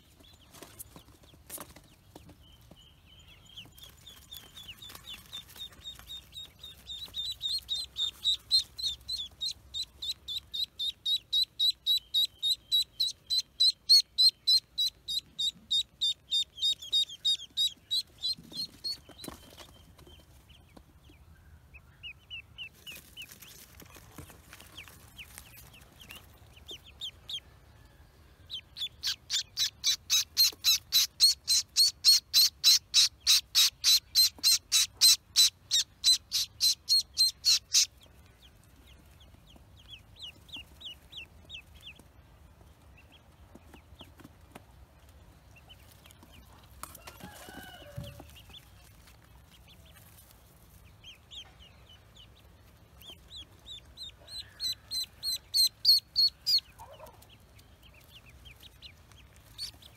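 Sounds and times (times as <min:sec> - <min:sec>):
duckling peeping: 0:00.1 - 0:59.9.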